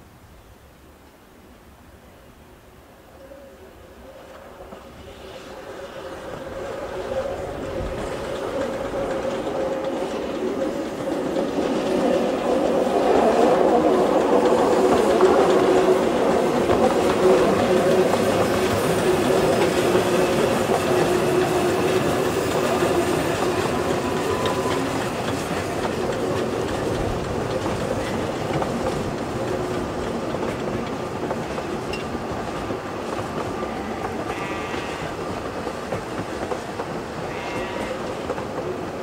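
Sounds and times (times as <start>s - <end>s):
steam locomotive working: 3.1s - 39.0s
train carriages rolling on rails: 3.8s - 39.0s.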